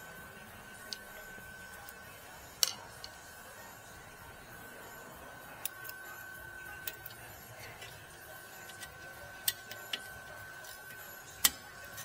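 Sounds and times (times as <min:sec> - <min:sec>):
faint steady high tone: 0:00.0 - 0:12.0.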